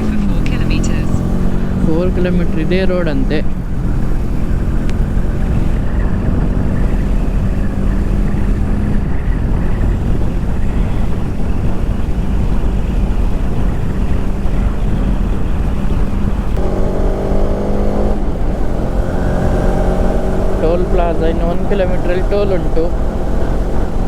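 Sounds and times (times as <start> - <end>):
motorcycle engine cruising: 0.0 - 24.0
rising engine tones: 0.0 - 24.0
road rumble: 0.0 - 24.0.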